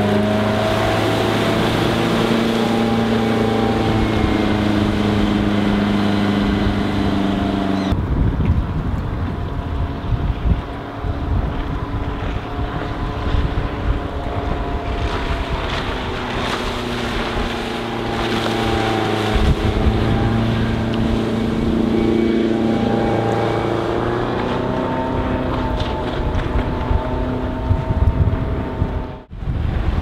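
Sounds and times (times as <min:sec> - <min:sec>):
boat engine running: 0:00.0 - 0:30.0
wind buffeting microphone: 0:00.0 - 0:30.0.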